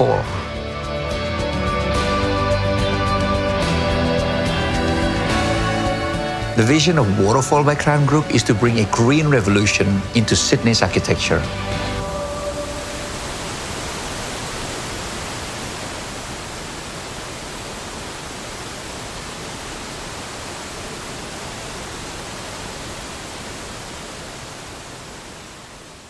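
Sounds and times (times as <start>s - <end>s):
rushing falling water: 0.0s - 0.5s, 4.8s - 26.0s.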